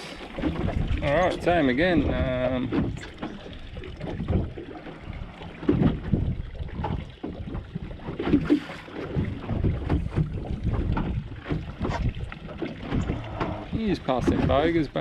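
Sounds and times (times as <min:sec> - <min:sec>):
wind buffeting microphone: 0:00.3 - 0:08.4, 0:09.1 - 0:15.0.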